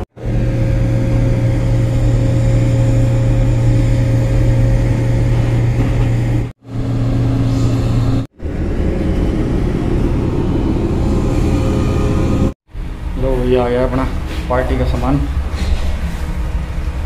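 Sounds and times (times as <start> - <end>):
deck crane machinery humming: 0.0 - 17.0.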